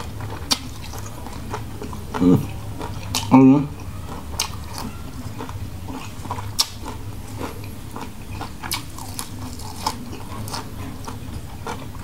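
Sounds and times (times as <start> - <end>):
steady low hum: 0.0 - 12.0
wet chewing and mouth clicks: 0.0 - 12.0.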